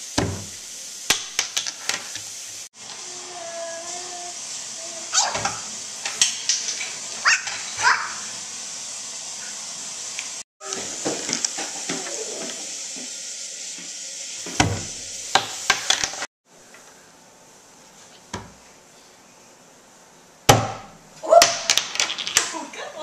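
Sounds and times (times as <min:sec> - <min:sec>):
steady hiss: 0:00.0 - 0:21.2.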